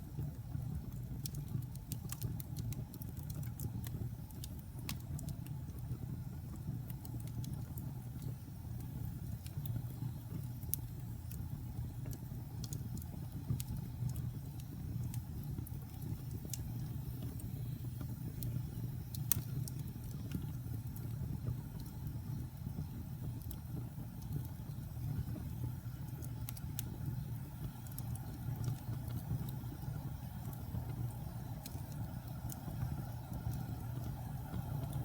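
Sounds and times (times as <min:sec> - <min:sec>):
wood fire burning and crackling: 0:00.0 - 0:35.0.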